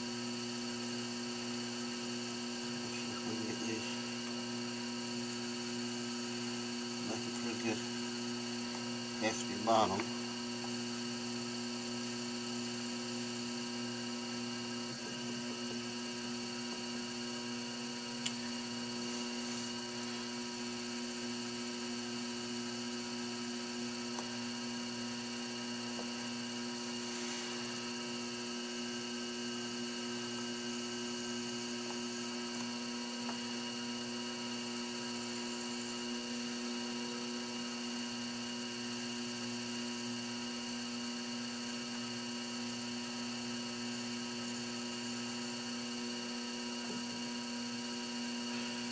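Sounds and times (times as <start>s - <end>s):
potter's wheel humming: 0.0s - 48.9s.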